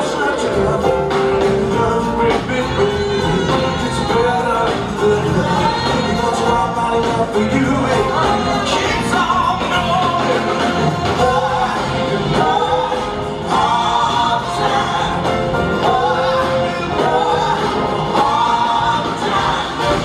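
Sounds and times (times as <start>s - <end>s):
band members singing along: 0.0s - 20.0s
live soul-rock band with horns: 0.0s - 20.0s
man singing lead vocal: 0.0s - 20.0s.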